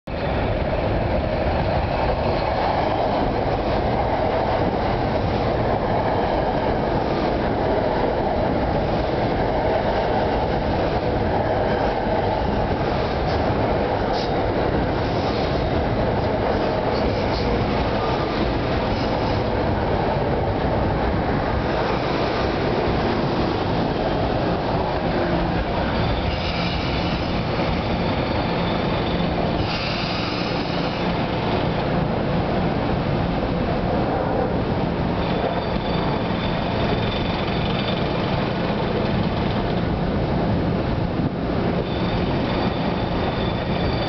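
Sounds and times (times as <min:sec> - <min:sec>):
train wheels on rails: 0:00.1 - 0:44.0.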